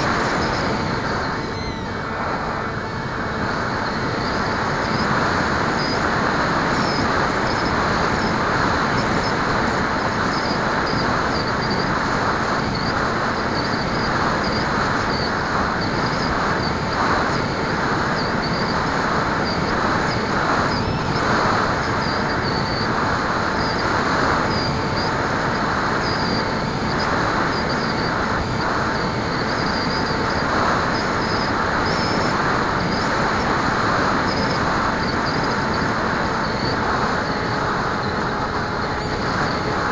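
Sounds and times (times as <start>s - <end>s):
electric motor and propeller: 0.0s - 39.9s
thin steady whine: 0.0s - 39.9s.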